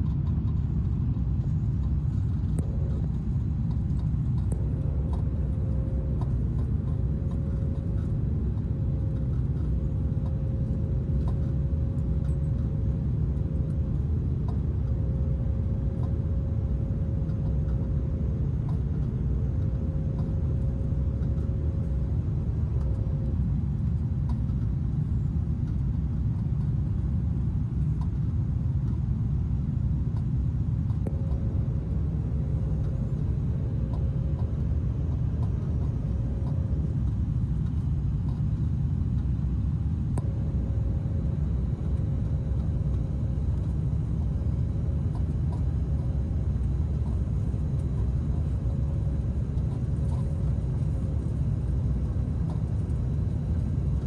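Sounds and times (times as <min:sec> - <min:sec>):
airliner cabin low rumble: 0:00.0 - 0:54.0
faint hum: 0:00.0 - 0:54.0.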